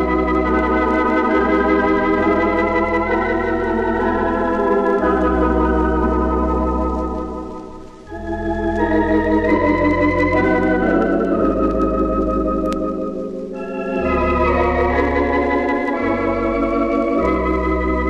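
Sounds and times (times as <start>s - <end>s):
organ playing a slow hymn: 0.0s - 18.0s.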